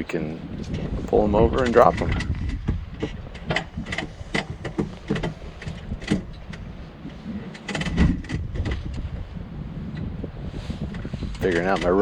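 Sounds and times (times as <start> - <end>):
rope and gear clicks and rustles: 0.0 - 12.0
wind rumbling on microphone: 0.0 - 12.0.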